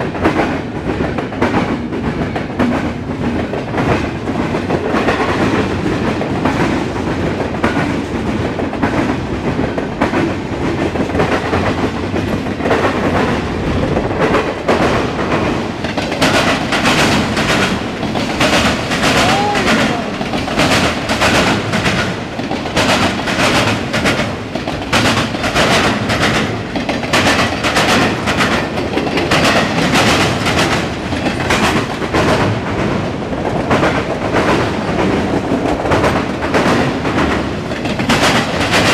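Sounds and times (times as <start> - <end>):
wheels clacking over rail joints: 0.0 - 38.9.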